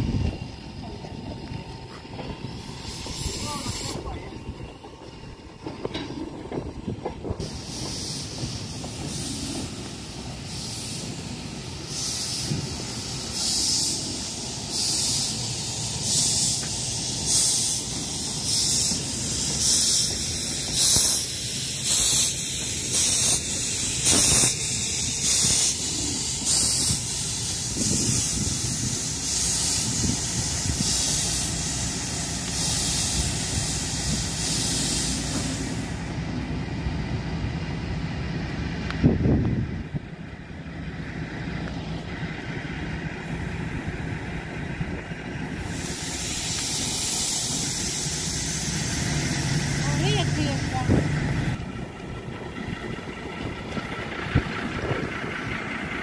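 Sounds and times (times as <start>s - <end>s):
steam hissing: 0.0s - 56.0s
steam locomotive chuffing: 0.0s - 56.0s.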